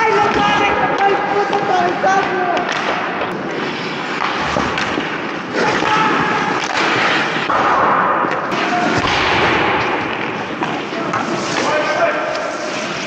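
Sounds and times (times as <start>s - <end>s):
hockey sticks or puck clacking: 0.0s - 13.0s
skate blades scraping ice: 0.0s - 13.0s.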